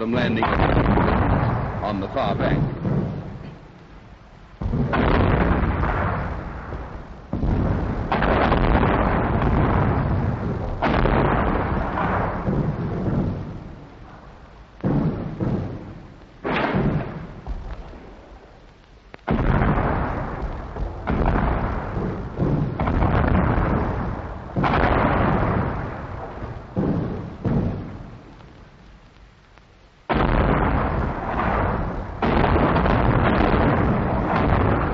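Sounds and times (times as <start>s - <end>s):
artillery booms: 0.0s - 18.6s, 19.2s - 28.8s, 30.1s - 34.9s.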